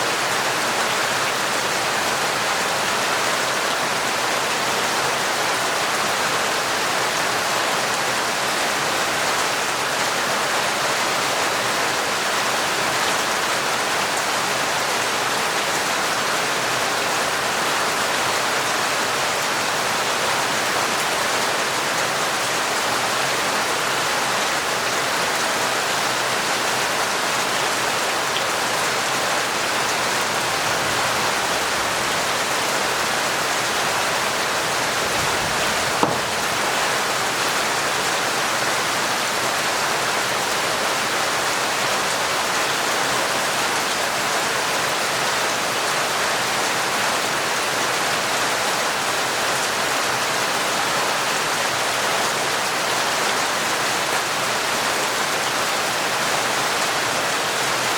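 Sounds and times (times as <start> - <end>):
torrential rain: 0.0 - 57.9.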